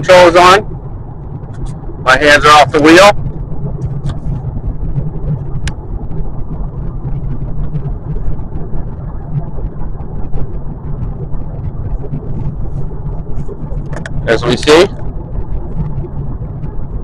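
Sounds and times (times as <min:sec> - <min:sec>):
low cabin rumble: 0:00.0 - 0:17.0
road and tyre noise: 0:00.0 - 0:17.0.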